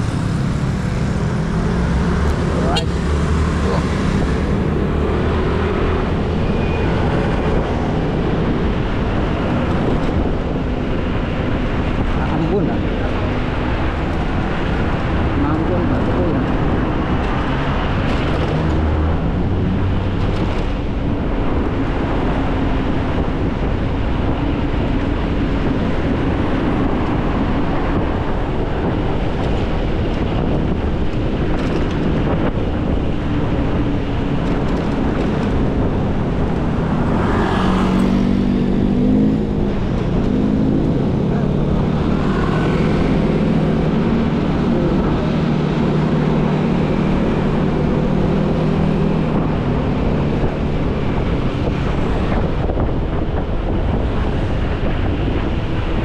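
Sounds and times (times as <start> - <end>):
road noise: 0.0 - 56.0
traffic engine hum: 0.0 - 56.0
wind rush: 0.0 - 56.0.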